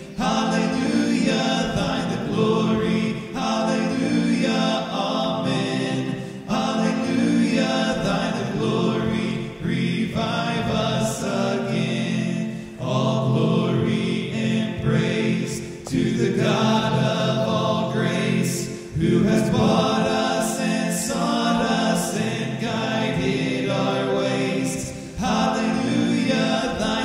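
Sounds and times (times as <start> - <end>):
voices singing a hymn a cappella: 0.0 - 27.0.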